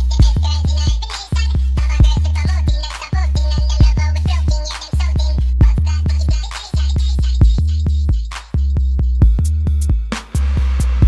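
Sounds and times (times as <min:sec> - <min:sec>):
deep bass line: 0:00.0 - 0:11.0
steady drum beat: 0:00.0 - 0:11.0.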